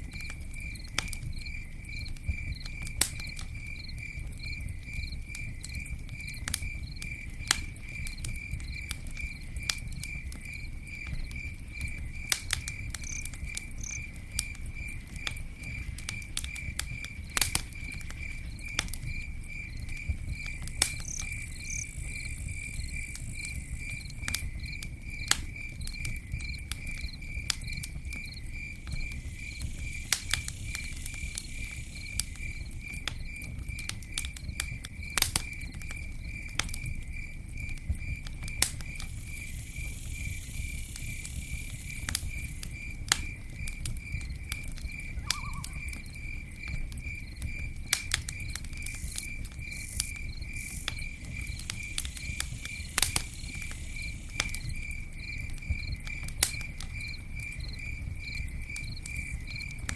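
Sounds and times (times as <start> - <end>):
campfire crackling and popping: 0.0 - 59.9
insect chirping: 0.1 - 59.9.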